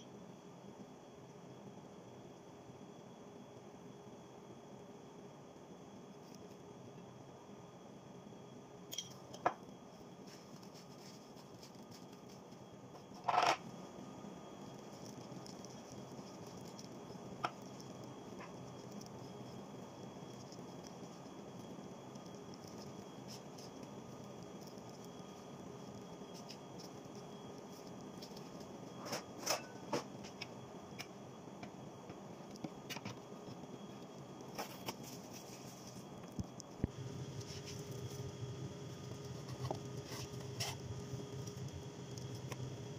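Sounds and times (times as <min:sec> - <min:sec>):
low room hum: 0:00.0 - 0:42.9.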